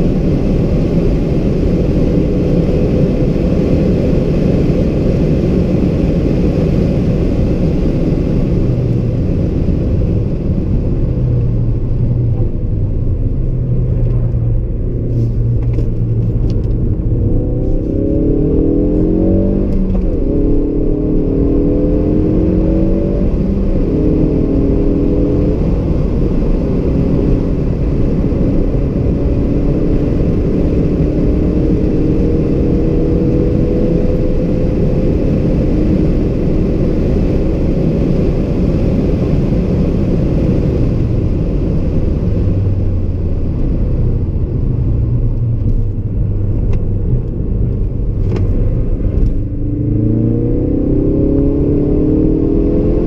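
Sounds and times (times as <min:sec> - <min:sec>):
car engine accelerating: 0:00.0 - 0:53.0
wind noise: 0:00.0 - 0:53.0.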